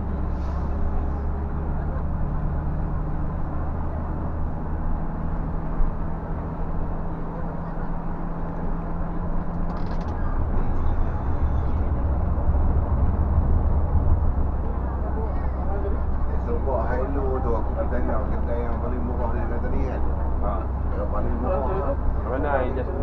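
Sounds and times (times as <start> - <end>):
bus engine running: 0.0 - 23.0
road noise: 0.0 - 23.0.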